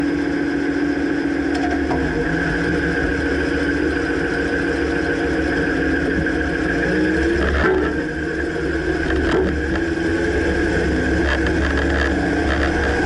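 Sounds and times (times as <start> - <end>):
pickup truck engine running: 0.0 - 13.0.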